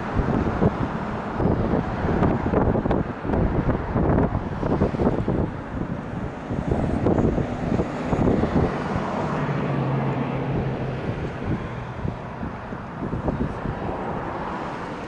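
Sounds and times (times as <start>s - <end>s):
passing train rumbling: 0.0s - 15.0s
wind buffeting microphone: 0.0s - 15.0s.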